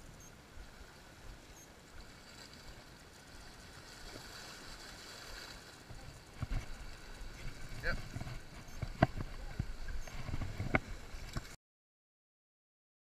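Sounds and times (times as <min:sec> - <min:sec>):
small waves washing against rocks: 0:00.5 - 0:11.6.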